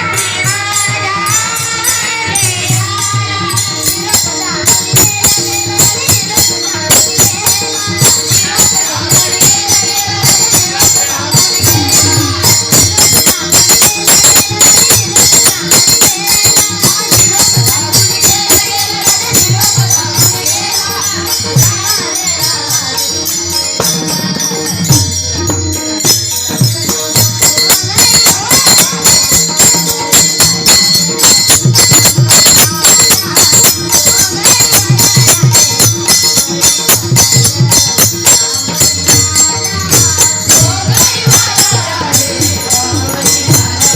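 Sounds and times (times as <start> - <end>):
drum beats: 0.0 - 43.9
jingling hand cymbals: 0.0 - 43.9
ringing cymbal tones: 0.0 - 43.9.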